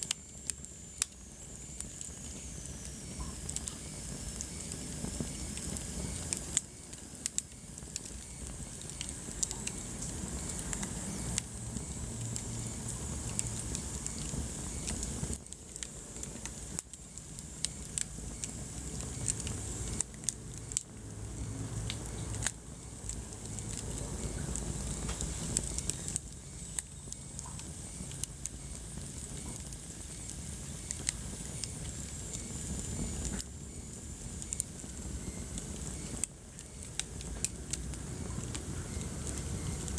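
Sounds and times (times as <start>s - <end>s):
flames rumbling and hissing: 0.0s - 39.9s
wood fire crackling: 0.0s - 39.9s.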